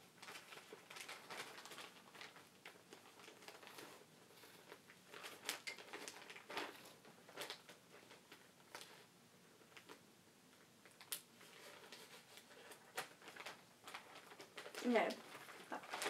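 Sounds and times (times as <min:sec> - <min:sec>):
plastic bag crinkling: 0:00.0 - 0:10.0, 0:10.6 - 0:16.0.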